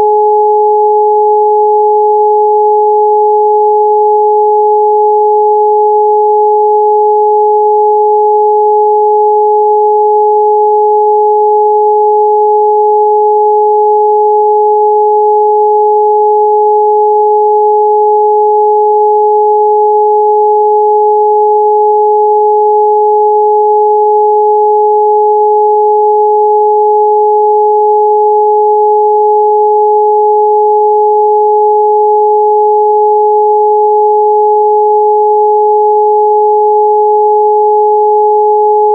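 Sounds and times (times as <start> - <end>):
electronic sine tone: 0.0 - 38.9.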